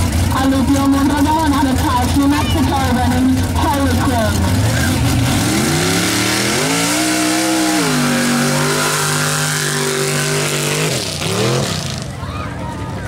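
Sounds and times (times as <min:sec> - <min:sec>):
buggy engine at full throttle: 0:00.0 - 0:13.0.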